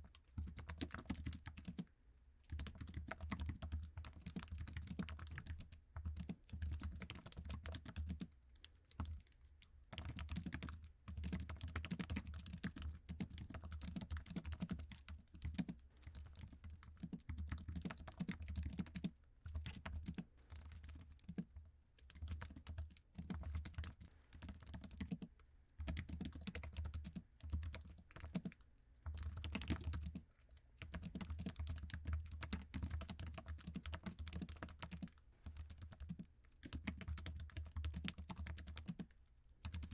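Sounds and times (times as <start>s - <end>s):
keyboard typing: 0.0s - 1.9s, 2.5s - 39.9s.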